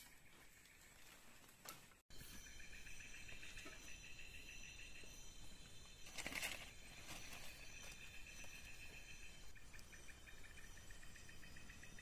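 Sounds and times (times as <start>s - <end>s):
insects chirring: 2.2s - 12.0s.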